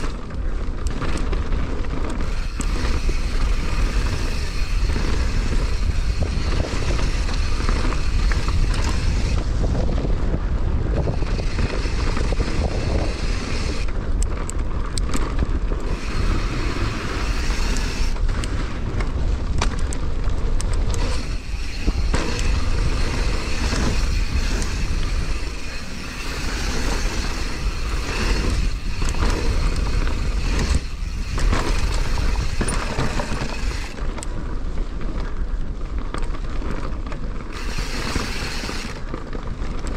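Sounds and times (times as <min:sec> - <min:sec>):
bike chain and frame clattering: 0:00.0 - 0:39.9
bike tyres rolling over dirt: 0:00.0 - 0:39.9
wind rushing over microphone: 0:00.0 - 0:39.9.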